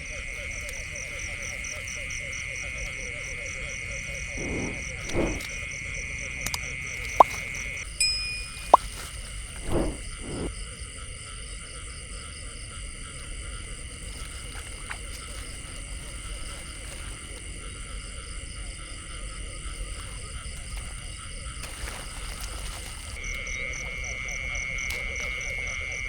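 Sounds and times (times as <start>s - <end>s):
frogs and insects trilling: 0.0s - 26.0s.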